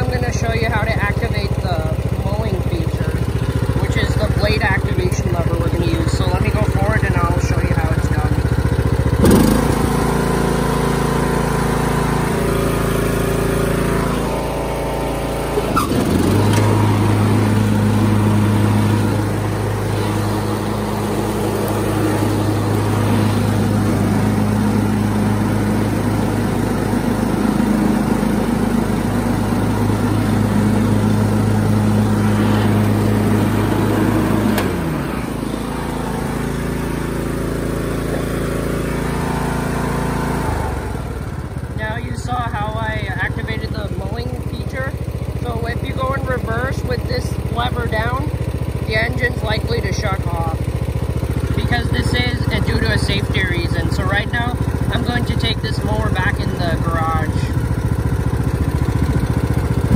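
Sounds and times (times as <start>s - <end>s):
riding lawn mower engine running: 0.0s - 59.9s.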